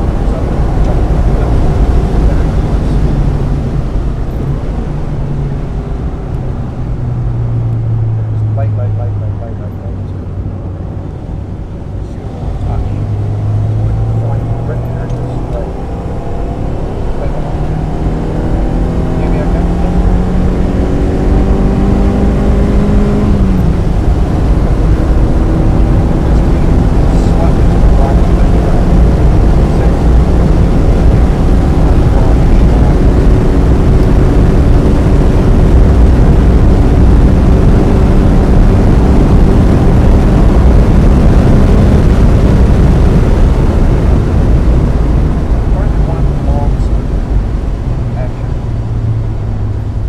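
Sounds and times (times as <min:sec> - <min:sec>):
car engine running: 0:00.0 - 0:50.0
loud low rumble: 0:00.0 - 0:50.0
tyre and road noise: 0:00.0 - 0:50.0.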